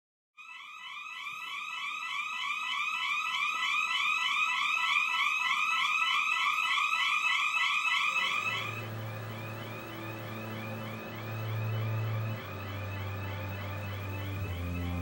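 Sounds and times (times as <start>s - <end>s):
electronic alarm rising sweeps: 0.4s - 15.0s.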